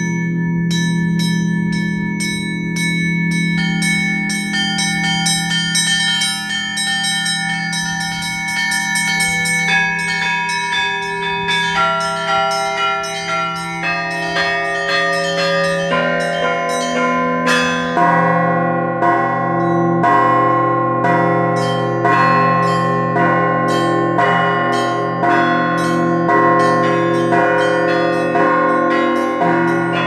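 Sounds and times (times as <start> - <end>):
middle bells ringing: 0.0 - 30.0
small high-pitched bells: 0.0 - 30.0.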